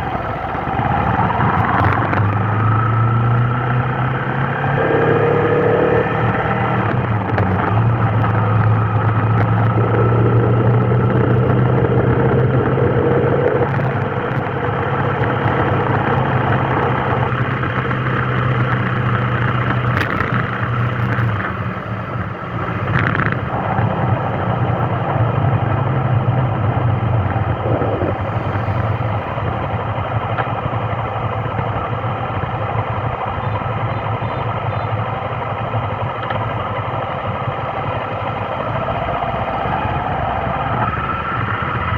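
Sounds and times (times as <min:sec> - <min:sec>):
road noise: 0:00.0 - 0:41.9
vehicle engine humming: 0:00.0 - 0:41.9.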